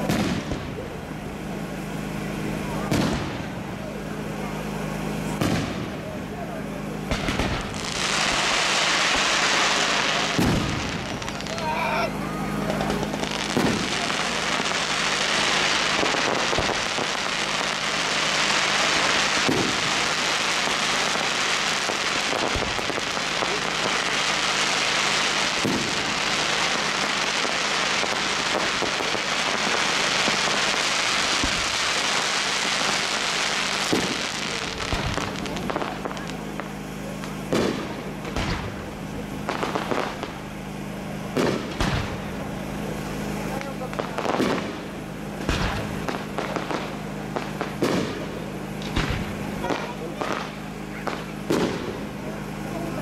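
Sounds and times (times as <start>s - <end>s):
firework shells bursting with bangs: 0.0s - 11.7s, 12.5s - 53.0s
fireworks crackling: 0.0s - 53.0s.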